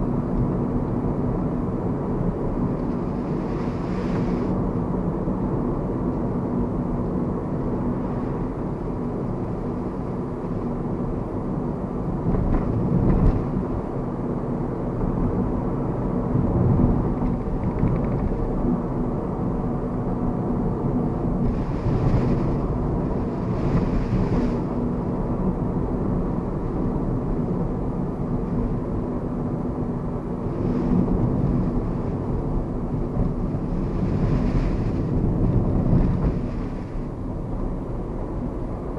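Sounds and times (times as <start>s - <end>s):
road and engine noise in cabin: 0.0s - 38.9s.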